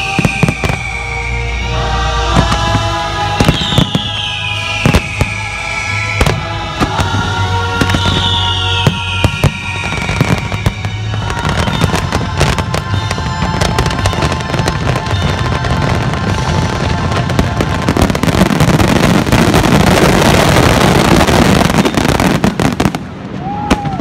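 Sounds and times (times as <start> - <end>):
firework bangs and crackling: 0.0 - 1.7, 2.3 - 24.0
music playing: 0.0 - 22.9.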